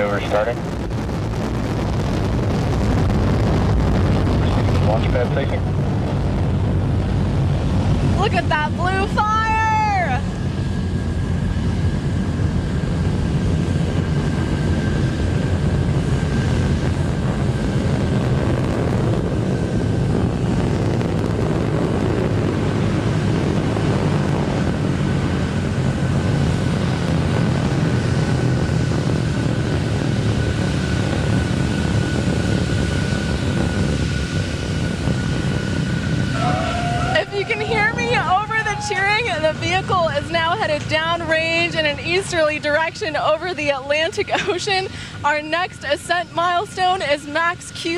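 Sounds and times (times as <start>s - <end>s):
rocket engines roaring: 0.0s - 47.9s.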